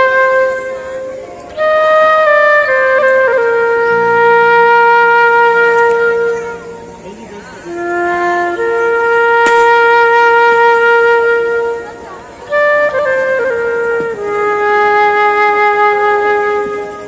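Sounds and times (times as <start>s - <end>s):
woodwind slow melody: 0.0s - 17.0s.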